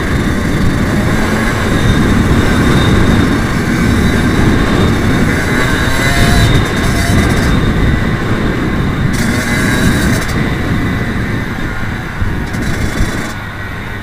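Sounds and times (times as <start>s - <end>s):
dirt bike engine: 0.0s - 14.0s
wind rumble on microphone: 0.0s - 14.0s.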